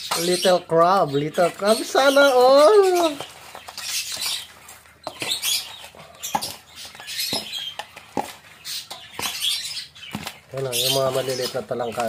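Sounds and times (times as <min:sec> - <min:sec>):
spoon stirring sticky batter: 0:00.0 - 0:12.0.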